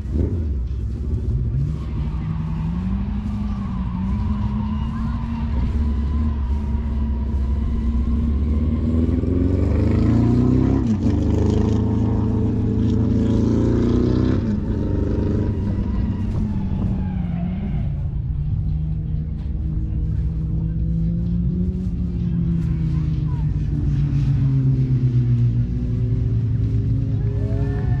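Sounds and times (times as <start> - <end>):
racing engine revving: 0.0 - 28.0.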